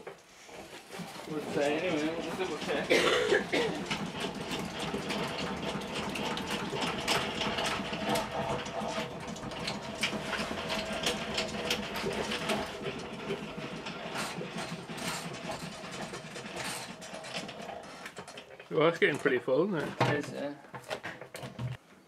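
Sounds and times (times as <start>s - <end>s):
honey extractor whirring: 0.0s - 21.8s.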